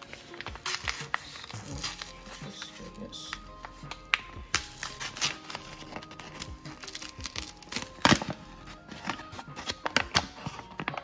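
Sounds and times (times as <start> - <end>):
paper bag rustling and crinkling: 0.0 - 11.0
sharp paper crackle: 0.0 - 11.0.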